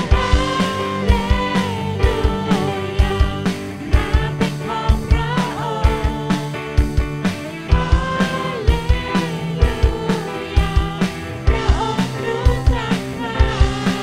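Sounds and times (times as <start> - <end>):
woman singing lead vocal: 0.0 - 6.9, 7.6 - 14.0
backing singers: 0.0 - 14.0
drum kit steady beat: 0.0 - 14.0
electric guitar: 0.0 - 14.0
keyboard: 0.0 - 14.0.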